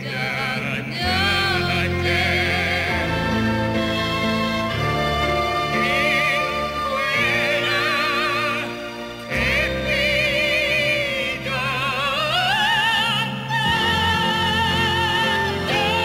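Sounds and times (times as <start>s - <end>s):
man and woman singing operatic duet: 0.0s - 16.0s
orchestra playing: 0.9s - 16.0s.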